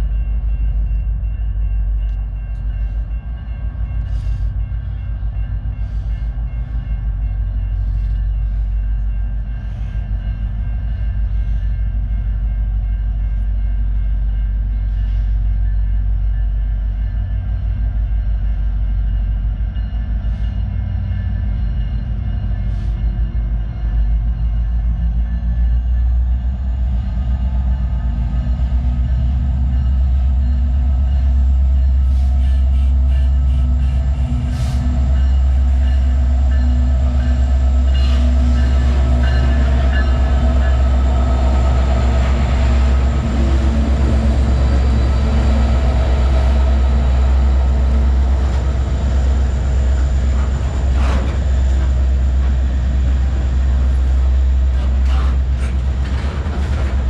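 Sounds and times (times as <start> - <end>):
diesel locomotive engine rumble: 0.0 - 57.0
steel wheels clacking on rails: 0.0 - 57.0.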